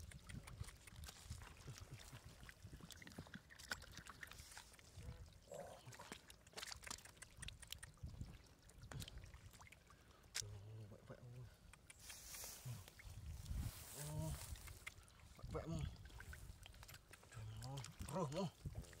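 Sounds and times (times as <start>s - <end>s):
mud squelching: 0.0s - 19.0s.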